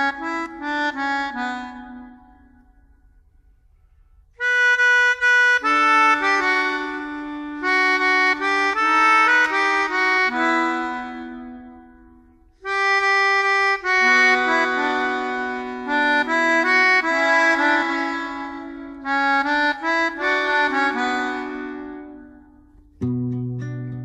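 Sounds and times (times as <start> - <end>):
accordion melody with chords: 0.0 - 24.0.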